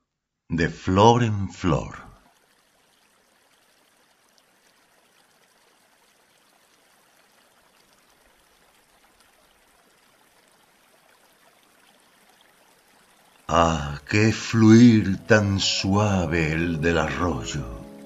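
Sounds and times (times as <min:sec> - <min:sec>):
small stream flowing: 0:01.7 - 0:18.0.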